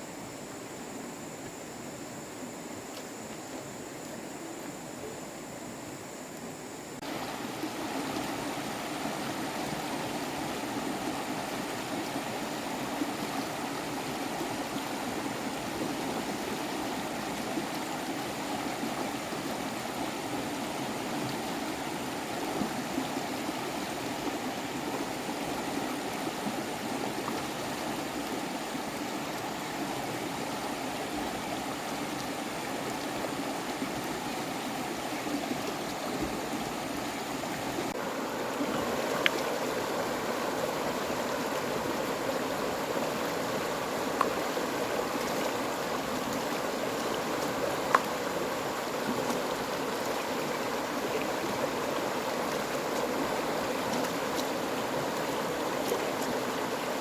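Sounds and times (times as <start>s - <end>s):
stream flowing water: 0.0s - 57.0s.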